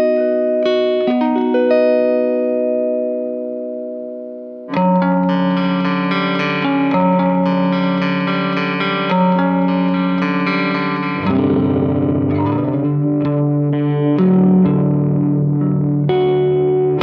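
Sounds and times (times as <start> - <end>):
compressed electric guitar chords: 0.0 - 17.0.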